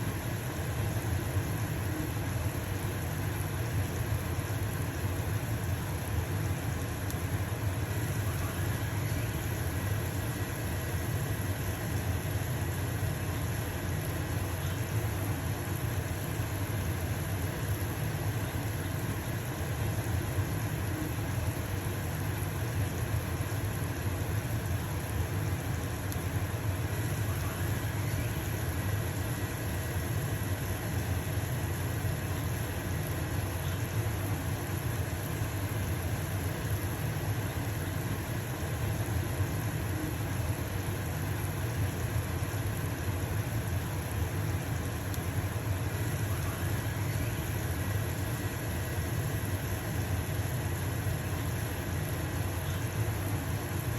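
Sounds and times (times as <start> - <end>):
pancake sizzling in a pan: 0.0 - 53.9
range hood fan humming: 0.0 - 53.9.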